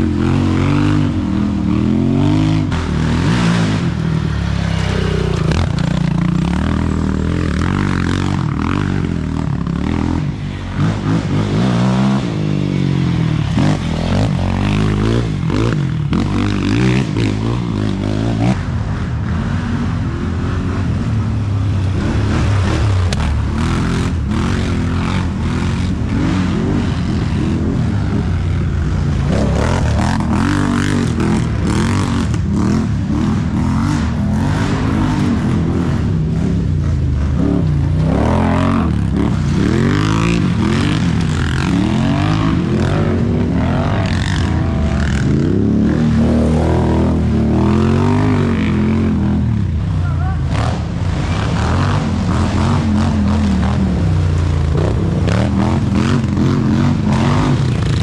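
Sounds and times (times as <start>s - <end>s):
quad engines revving: 0.0s - 58.0s.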